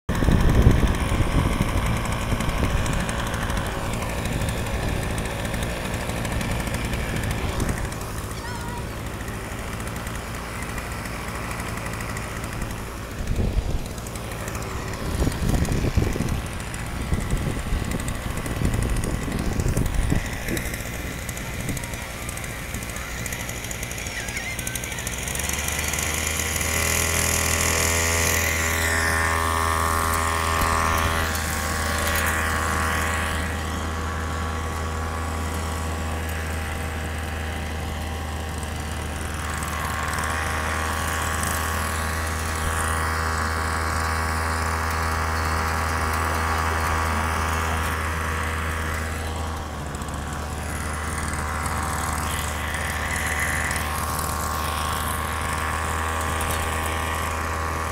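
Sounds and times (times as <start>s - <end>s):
small string trimmer engine running: 0.1s - 57.9s.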